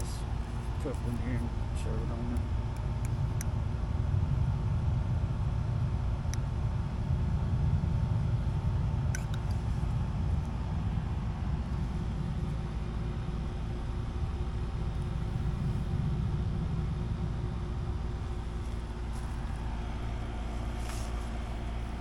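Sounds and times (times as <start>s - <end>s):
faint machine hum: 0.0s - 22.0s
low rumble: 0.0s - 22.0s.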